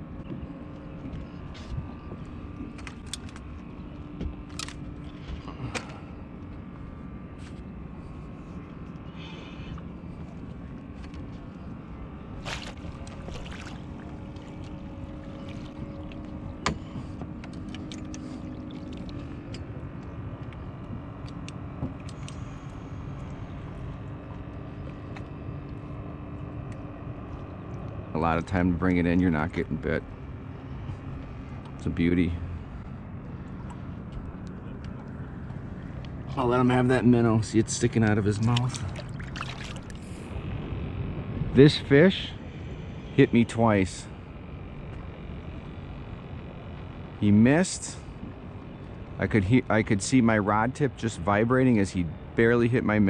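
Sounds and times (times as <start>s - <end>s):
boat motor running: 0.0s - 53.0s.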